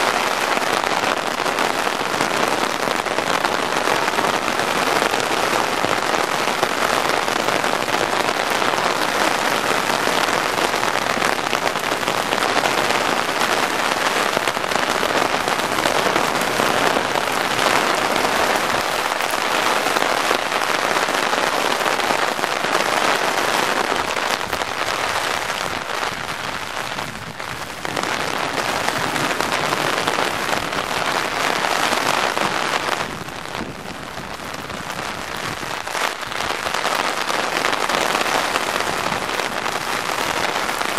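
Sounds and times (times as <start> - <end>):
heavy rain on pavement: 0.0 - 40.9
rain hitting an umbrella: 0.0 - 40.9.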